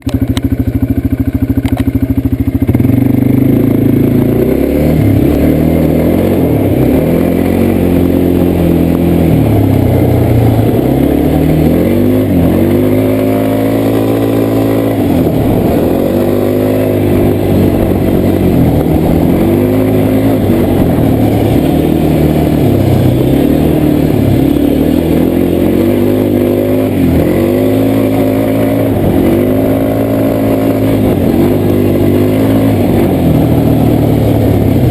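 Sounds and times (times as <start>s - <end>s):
quad bike engine revving: 0.0s - 34.9s.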